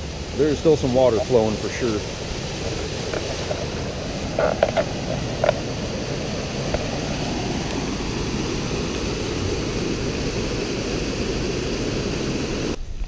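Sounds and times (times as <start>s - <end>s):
floodwater rushing: 0.0s - 12.8s.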